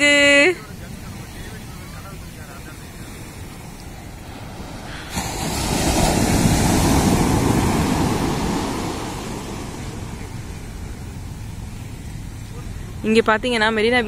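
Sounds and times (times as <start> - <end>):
waves breaking on shore: 0.0 - 13.2.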